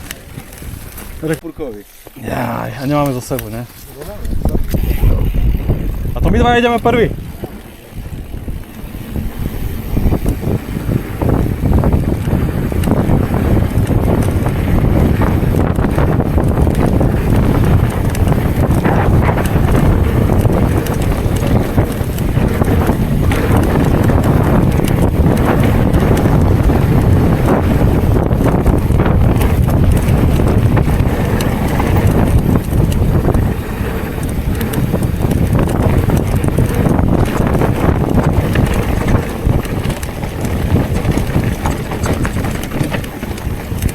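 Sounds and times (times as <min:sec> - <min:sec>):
bike rattling and clattering: 0:00.0 - 0:43.9
wind buffeting microphone: 0:00.0 - 0:43.9.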